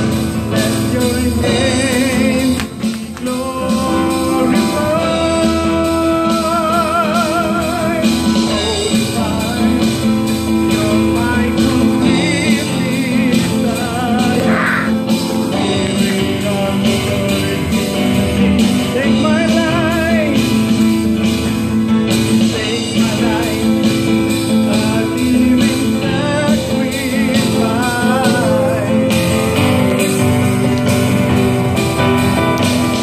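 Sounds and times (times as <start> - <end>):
man singing with vibrato: 0.0 - 20.8, 22.2 - 31.4
acoustic guitar: 0.0 - 33.0
keyboard: 0.0 - 33.0.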